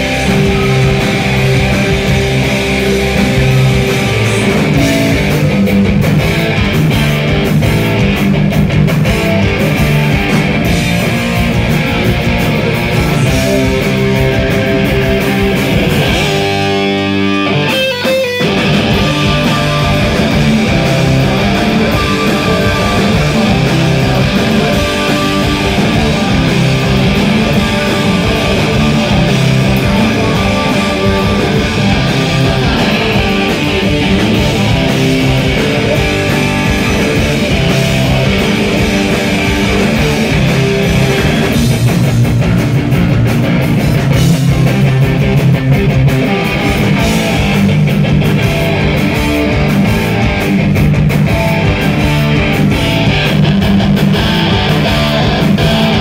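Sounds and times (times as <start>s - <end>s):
distorted electric guitar: 0.0s - 56.0s
rock band playing: 0.0s - 56.0s.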